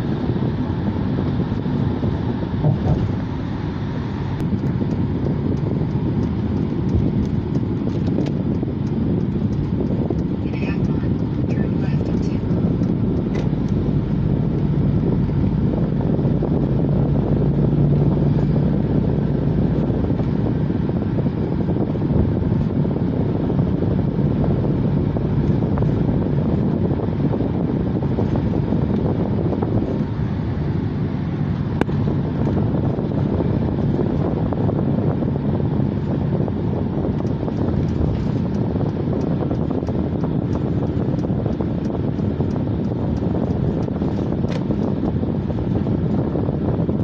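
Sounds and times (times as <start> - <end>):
car engine and tyre noise: 0.0 - 47.0.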